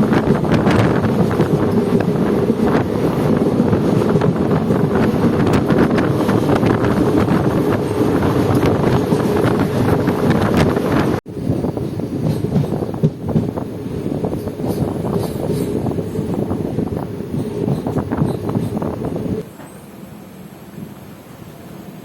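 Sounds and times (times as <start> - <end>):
wind on microphone: 0.0 - 19.4
train rumbling: 0.0 - 22.0.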